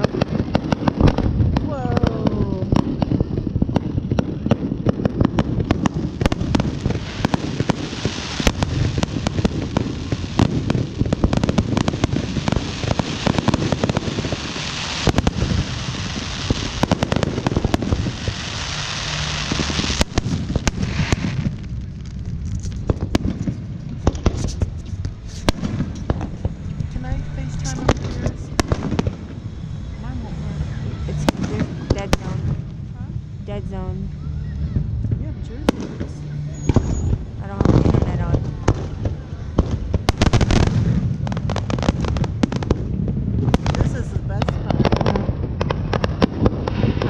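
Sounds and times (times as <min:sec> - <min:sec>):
fireworks crackling and popping: 0:00.0 - 0:47.0
fireworks hissing: 0:00.0 - 0:47.0.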